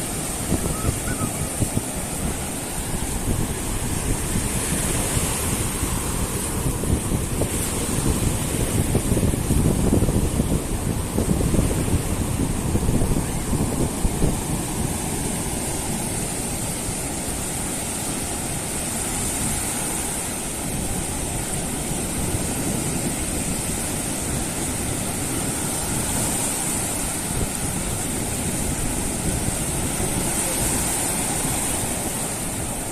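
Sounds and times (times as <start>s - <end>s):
waves washing onto shore: 0.0s - 32.9s
wind buffeting microphone: 0.0s - 32.9s.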